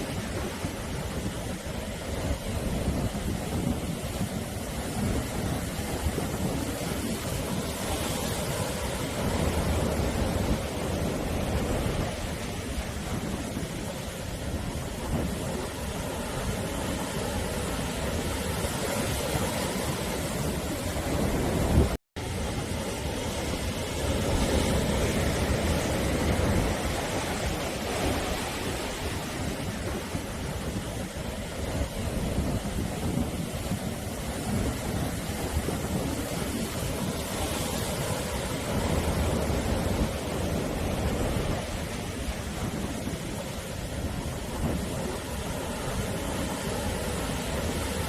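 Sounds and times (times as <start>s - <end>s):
waves breaking on shore: 0.0s - 48.0s.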